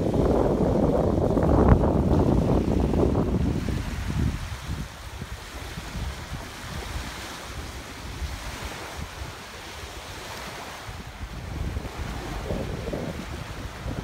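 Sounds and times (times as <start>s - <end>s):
small waves lapping on shore: 0.0s - 14.0s
wind buffeting microphone: 0.0s - 14.0s.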